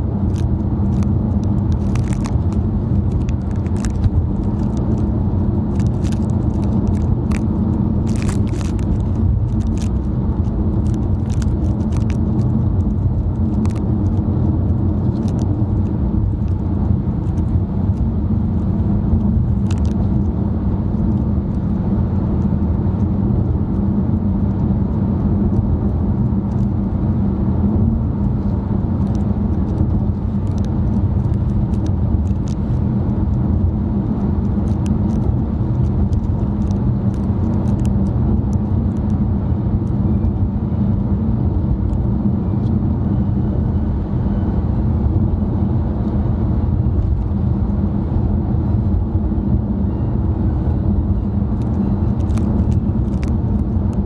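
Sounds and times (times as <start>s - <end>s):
engine and road noise drone: 0.0s - 54.0s
small clicks and ticks: 0.2s - 21.7s, 23.0s - 26.8s, 27.8s - 42.7s, 50.6s - 54.0s.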